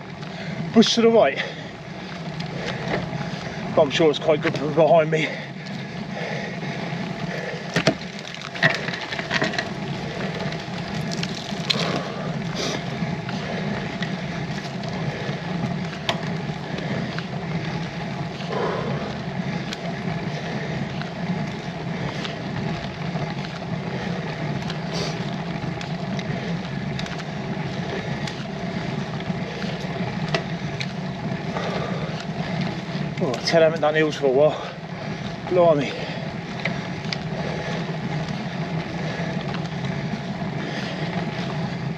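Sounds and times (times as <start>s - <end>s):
bike rolling and drivetrain noise: 0.0s - 41.9s.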